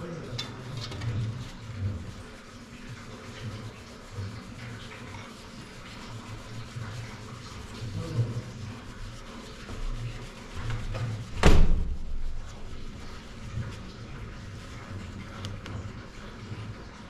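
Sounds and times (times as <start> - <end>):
sieve rubbing over metal pan: 0.0 - 16.5.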